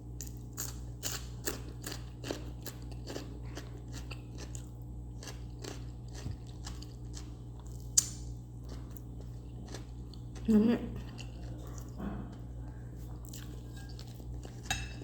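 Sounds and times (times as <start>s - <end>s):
low steady hum: 0.0s - 15.0s
chewing crisp vegetables: 0.1s - 15.0s.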